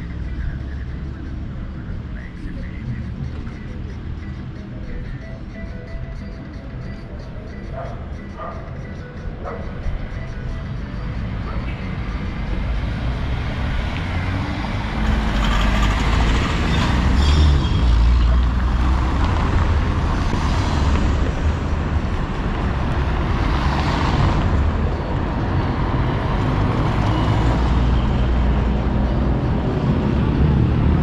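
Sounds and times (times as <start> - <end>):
motor vehicles passing: 0.0 - 31.0.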